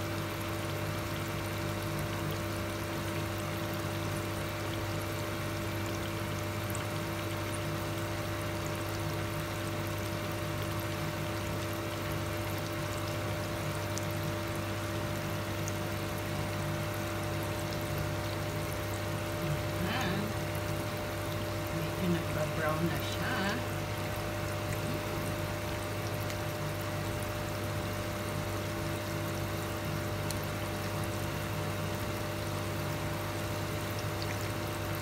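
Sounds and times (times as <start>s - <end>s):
food deep-frying in oil: 0.0s - 35.0s.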